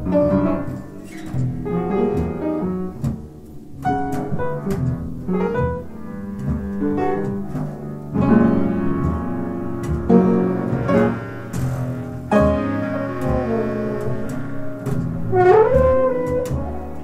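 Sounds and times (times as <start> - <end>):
free jazz piano: 0.0 - 17.0.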